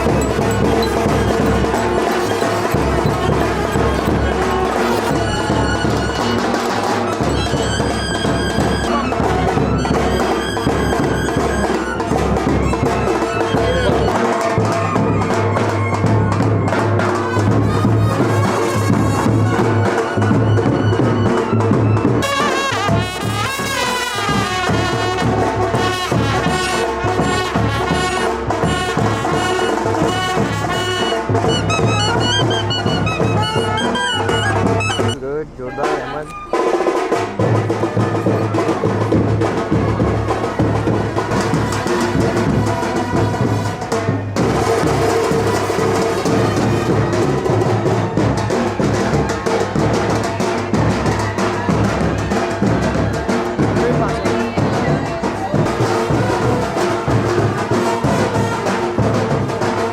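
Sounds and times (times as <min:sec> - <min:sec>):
brass instrumental music: 0:00.0 - 0:54.3, 0:55.6 - 0:59.9
drums: 0:00.0 - 0:59.9.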